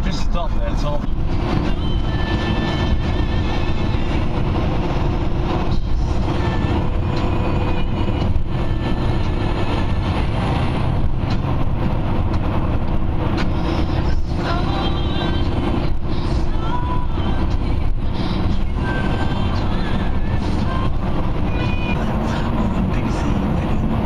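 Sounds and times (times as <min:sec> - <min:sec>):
engine and tyre rumble: 0:00.0 - 0:24.0.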